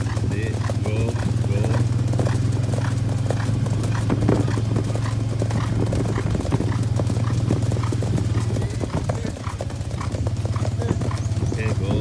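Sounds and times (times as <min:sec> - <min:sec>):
hooves clip-clopping on pavement: 0:00.0 - 0:12.0.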